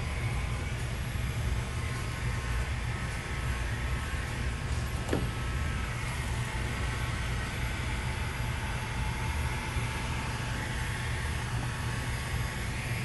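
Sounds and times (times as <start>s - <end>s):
heat gun blowing with low hum: 0.0s - 13.0s.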